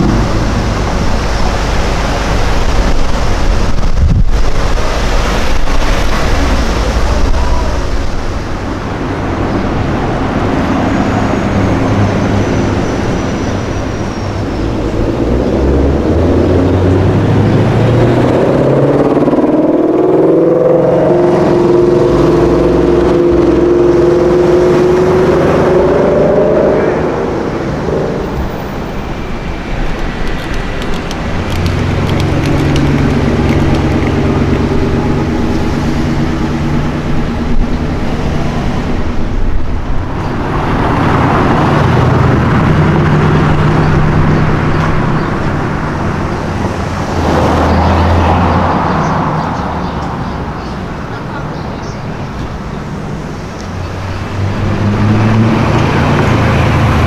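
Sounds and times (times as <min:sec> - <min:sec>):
car engine pulling away: 0:00.0 - 0:51.3, 0:52.2 - 0:57.0
traffic engines passing: 0:00.0 - 0:57.0.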